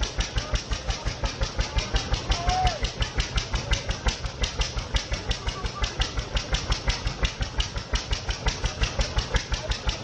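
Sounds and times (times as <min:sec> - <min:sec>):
small engine thumping: 0:00.0 - 0:10.0.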